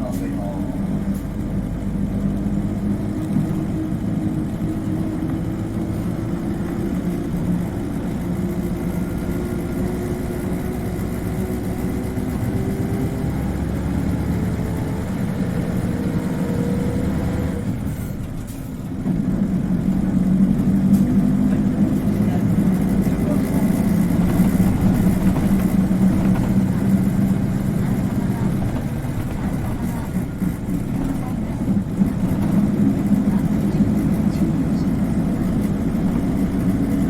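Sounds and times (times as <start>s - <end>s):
bus diesel engine pulling: 0.0s - 37.0s.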